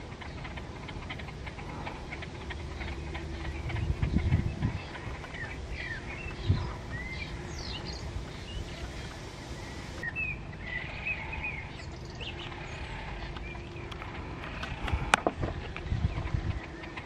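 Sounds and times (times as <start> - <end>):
steady background hiss: 0.0 - 15.9
small birds chirping: 0.0 - 17.0.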